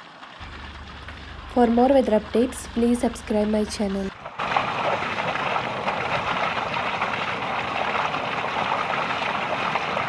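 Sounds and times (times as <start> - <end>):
heavy rain and hail: 0.4 - 10.0.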